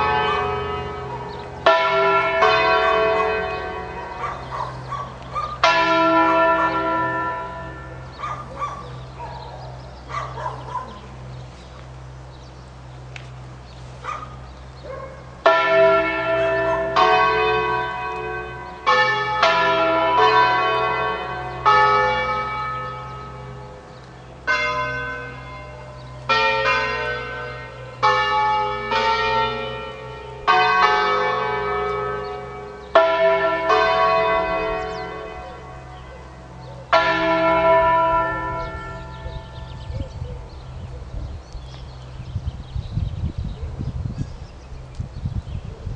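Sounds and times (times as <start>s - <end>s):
church bells ringing: 0.0s - 12.1s, 13.4s - 42.2s.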